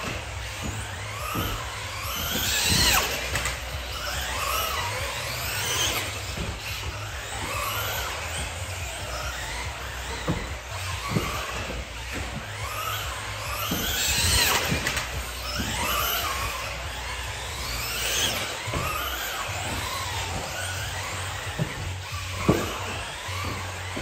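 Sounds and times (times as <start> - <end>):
rc car knocking on landing: 0.0 - 24.0
rc car motor whine: 0.0 - 24.0.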